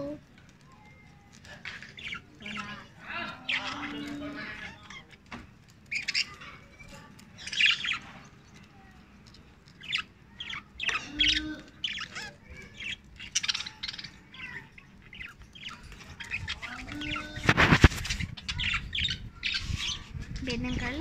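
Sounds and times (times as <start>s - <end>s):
budgerigars chirping and chattering: 1.4s - 21.0s.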